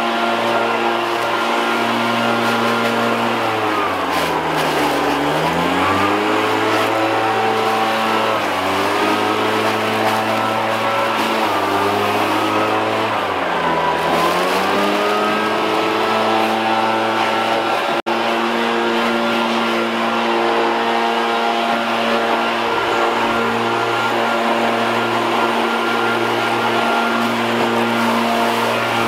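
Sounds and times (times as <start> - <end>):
leaf blower running: 0.0 - 29.0.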